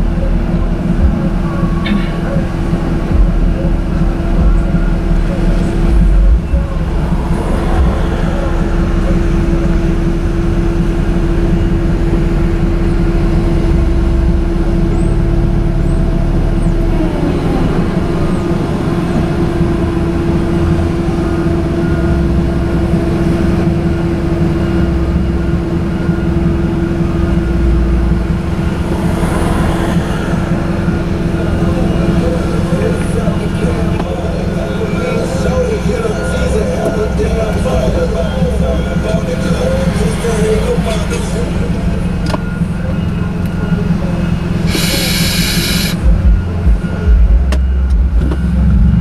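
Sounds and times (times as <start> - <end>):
car engine idling: 0.0 - 49.0
traffic passing: 0.0 - 49.0
truck rumbling by: 0.0 - 49.0.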